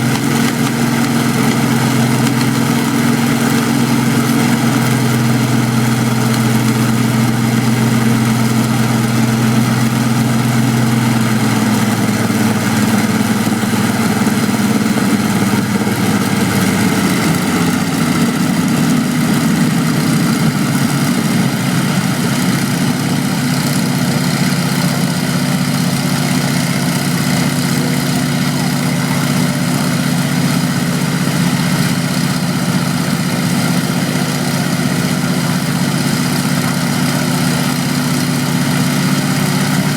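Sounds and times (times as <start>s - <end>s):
aero engines running: 0.0s - 39.9s.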